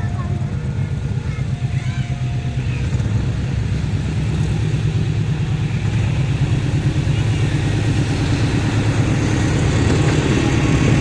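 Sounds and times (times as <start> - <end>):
vehicle low rumble: 0.0 - 11.0.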